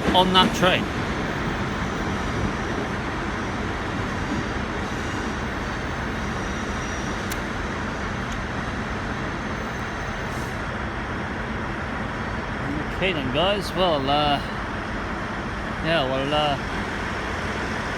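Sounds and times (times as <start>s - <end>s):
diesel train engine rumble: 0.0s - 17.9s.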